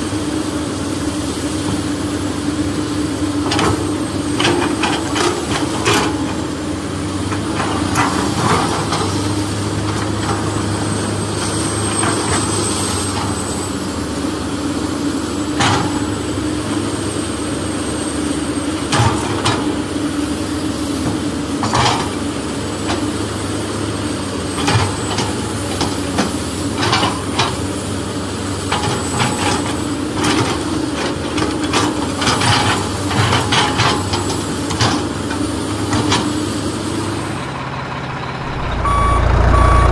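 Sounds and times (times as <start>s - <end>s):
heavy machinery engine humming: 0.0s - 39.9s.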